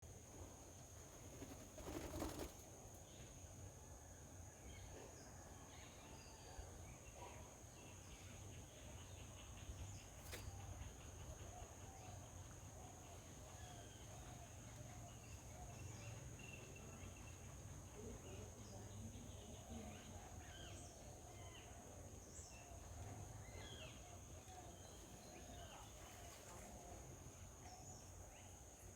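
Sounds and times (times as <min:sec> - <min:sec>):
faint bird chirps: 0:04.0 - 0:28.9.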